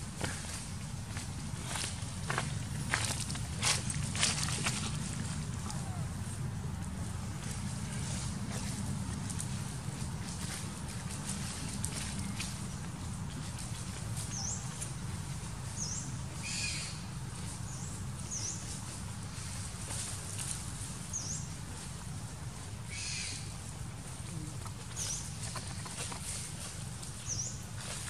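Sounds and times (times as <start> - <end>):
dry leaves rustling: 0.0 - 28.0
steady low rumble: 0.0 - 28.0.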